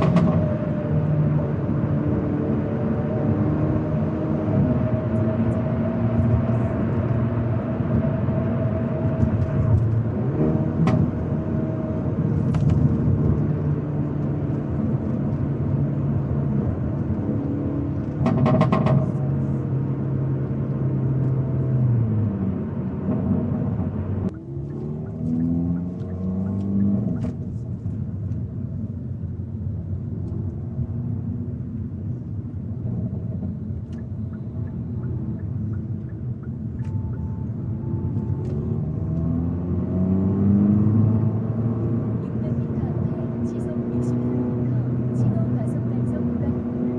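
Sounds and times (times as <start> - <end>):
car engine humming: 0.0 - 46.9.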